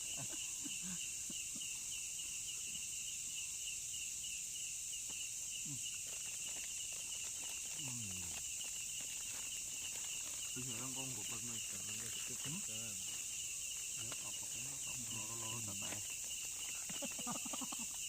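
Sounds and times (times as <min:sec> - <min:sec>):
insects buzzing: 0:00.0 - 0:18.0
pulsing insect chirp: 0:00.0 - 0:18.0.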